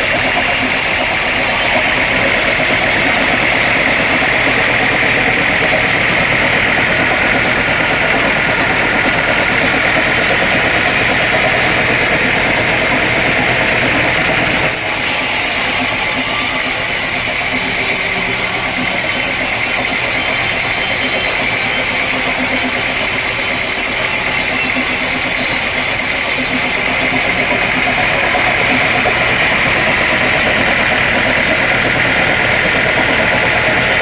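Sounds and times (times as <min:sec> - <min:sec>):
sawmill machinery droning: 0:00.0 - 0:34.0.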